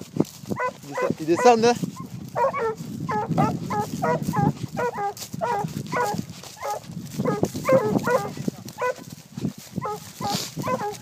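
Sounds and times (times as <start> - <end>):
hound yelping barks: 0.5 - 9.1, 9.8 - 11.0.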